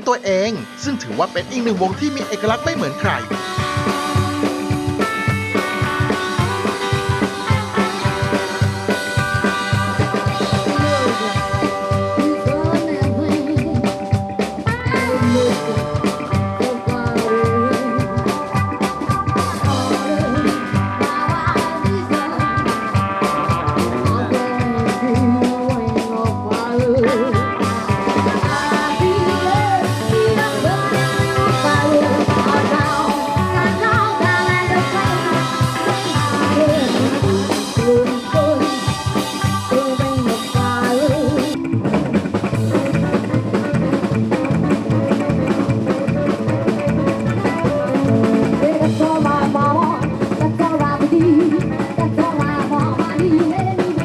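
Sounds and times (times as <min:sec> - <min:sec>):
drum kit: 0:00.0 - 0:54.0
electric guitar: 0:00.0 - 0:54.0
upright double bass: 0:00.1 - 0:17.7, 0:18.6 - 0:38.6, 0:39.4 - 0:54.0.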